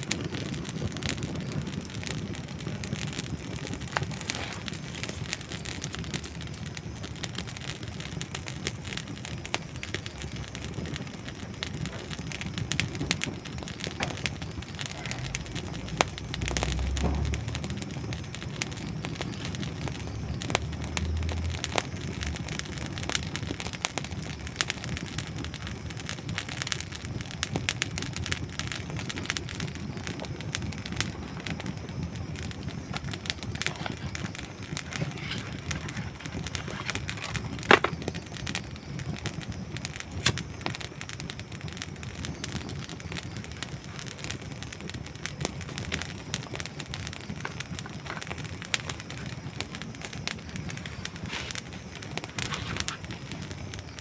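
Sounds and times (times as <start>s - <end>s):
campfire crackling and popping: 0.0s - 54.0s
flame hissing: 0.0s - 54.0s.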